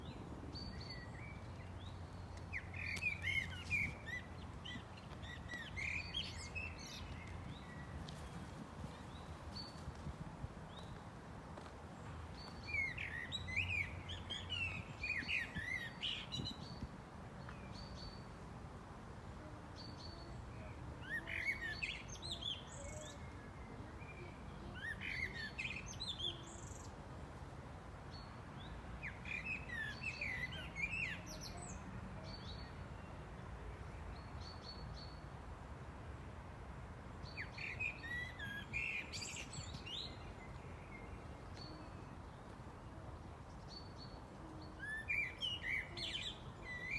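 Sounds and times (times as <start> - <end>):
low background noise: 0.0 - 46.9.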